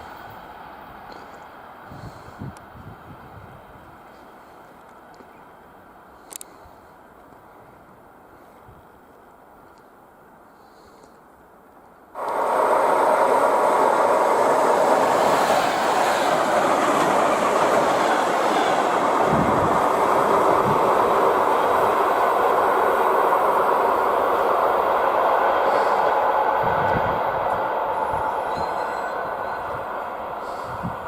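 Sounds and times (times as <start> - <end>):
train running past: 0.0 - 6.1, 12.2 - 31.0.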